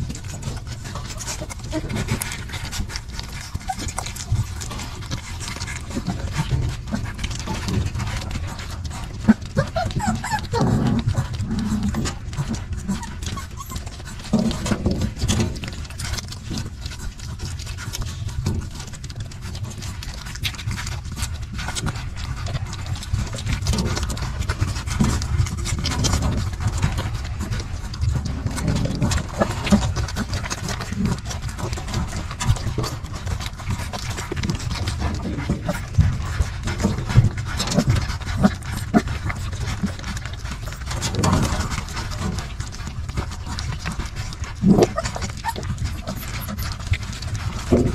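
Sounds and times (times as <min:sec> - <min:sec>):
dog panting: 0:00.0 - 0:47.9
puppies suckling wet clicks: 0:00.0 - 0:47.9.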